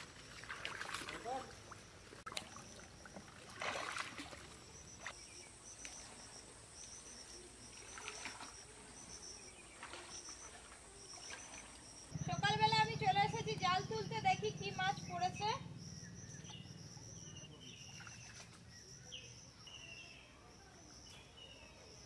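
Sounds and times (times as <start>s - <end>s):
water sloshing from wading: 0.0s - 18.9s
insects chirping: 0.0s - 22.0s.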